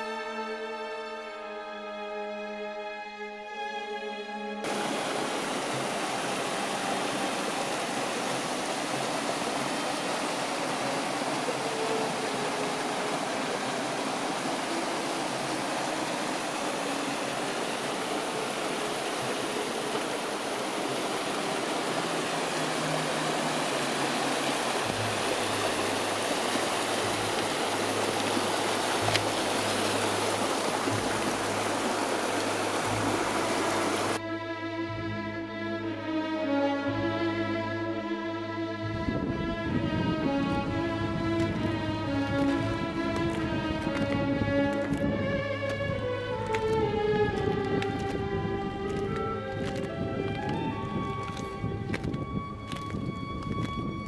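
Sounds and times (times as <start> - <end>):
meltwater stream rushing: 0.0 - 2.0, 3.5 - 34.2, 38.9 - 54.0.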